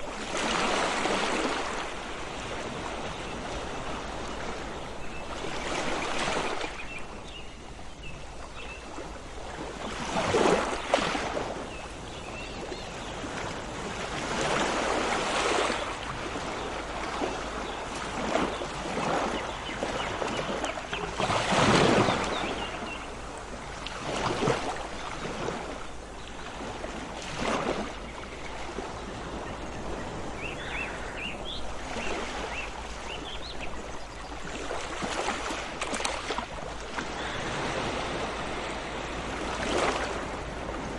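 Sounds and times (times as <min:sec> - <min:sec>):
sea waves breaking: 0:00.0 - 0:07.0, 0:08.4 - 0:40.9.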